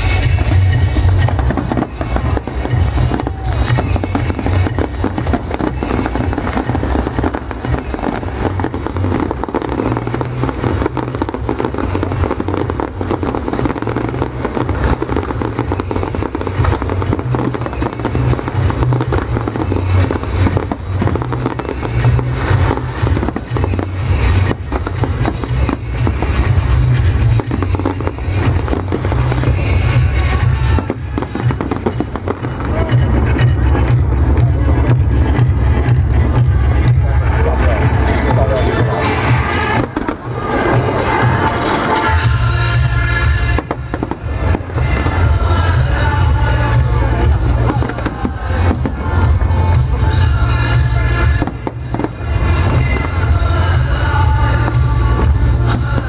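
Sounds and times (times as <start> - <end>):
fireworks booming and crackling: 0.0 - 56.0
music playing: 0.0 - 56.0.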